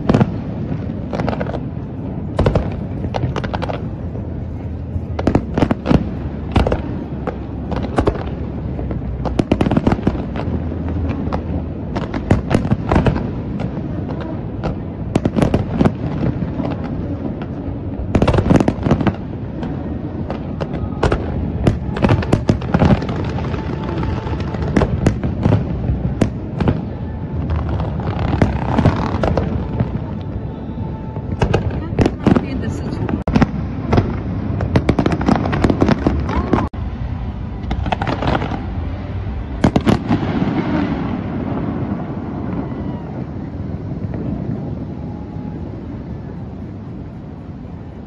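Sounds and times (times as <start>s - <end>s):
fireworks bursting: 0.0s - 48.0s.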